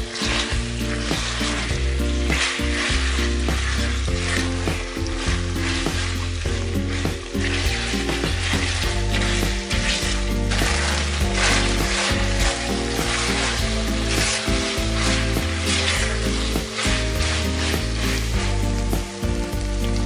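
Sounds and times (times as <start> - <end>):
background music with bass: 0.0 - 20.0
food sizzling in a frying pan: 0.0 - 20.0
spatula stirring in pan: 0.0 - 20.0.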